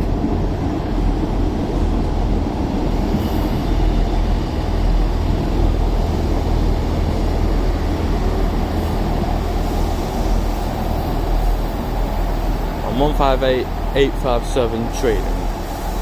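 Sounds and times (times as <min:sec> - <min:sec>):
diesel train engines rumbling: 0:00.0 - 0:16.0.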